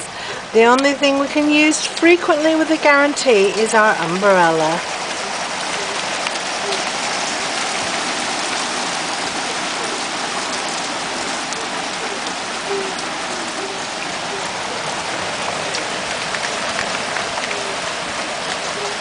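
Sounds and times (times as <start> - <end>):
heavy rain hissing: 0.0 - 19.0
raindrops ticking: 0.0 - 19.0.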